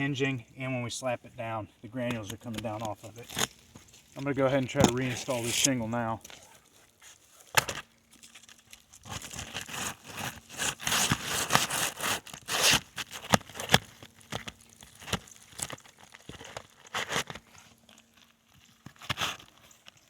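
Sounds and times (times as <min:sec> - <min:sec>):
shingle scraping and crackling: 0:01.0 - 0:20.0.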